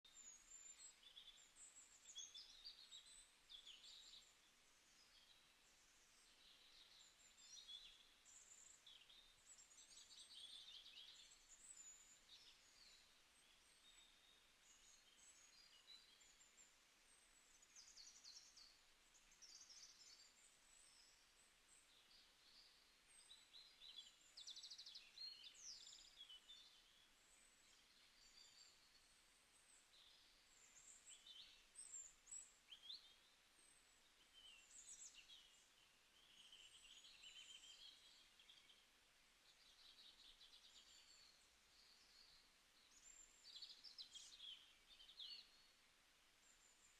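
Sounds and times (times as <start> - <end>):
small birds chirping: 0.0 - 46.9
soft background hiss: 0.0 - 46.9.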